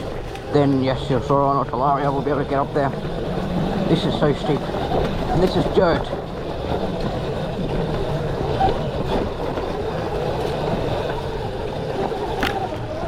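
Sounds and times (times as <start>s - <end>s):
tyres on dirt: 0.0s - 13.0s
wind rumble: 0.0s - 13.0s.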